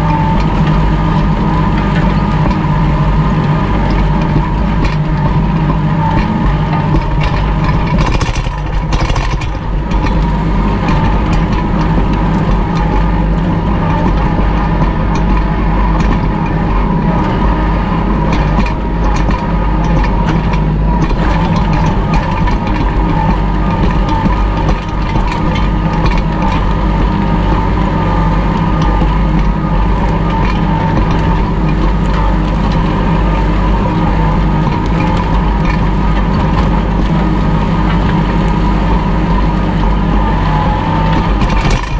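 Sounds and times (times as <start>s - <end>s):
disc harrow scraping ground: 0.0s - 41.9s
tractor diesel engine running: 0.0s - 41.9s.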